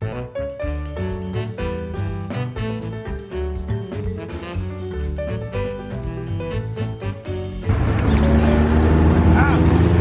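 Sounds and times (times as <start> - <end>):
upbeat swing jazz music: 0.0 - 10.0.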